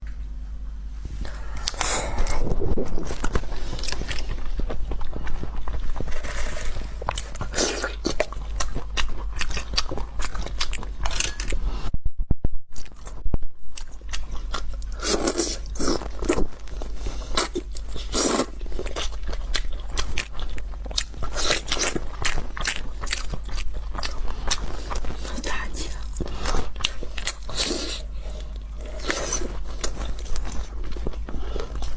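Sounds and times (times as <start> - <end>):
crunching and chewing food: 1.1 - 11.9, 12.7 - 31.9.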